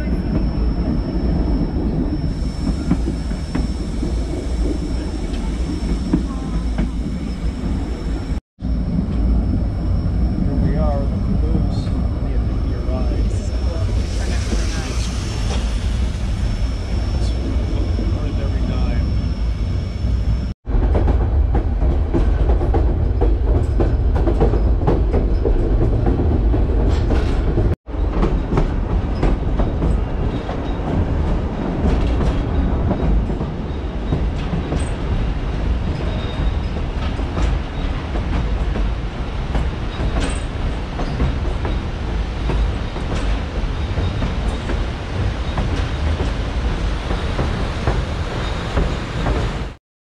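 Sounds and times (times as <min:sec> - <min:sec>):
train rumble: 0:00.0 - 0:49.8.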